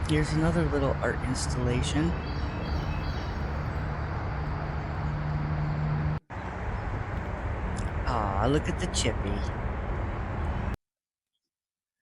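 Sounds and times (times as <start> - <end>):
road traffic noise: 0.0 - 10.8.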